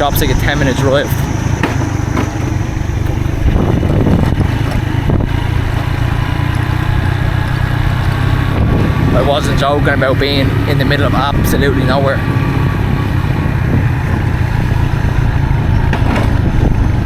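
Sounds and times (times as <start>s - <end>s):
moped engine running: 0.0s - 17.0s
wind rumbling on microphone: 0.0s - 17.0s.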